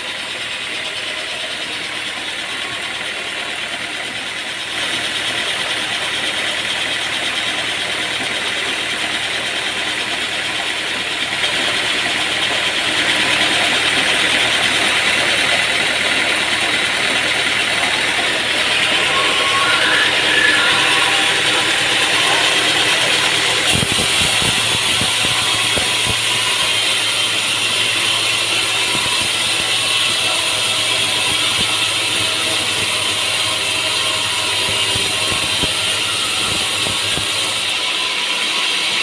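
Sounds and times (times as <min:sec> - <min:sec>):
sawmill machinery running: 0:00.0 - 0:39.0.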